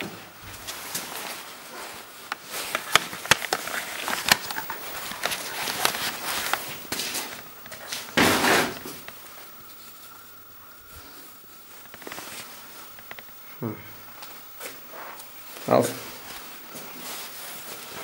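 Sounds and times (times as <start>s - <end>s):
footsteps: 0.0s - 18.0s.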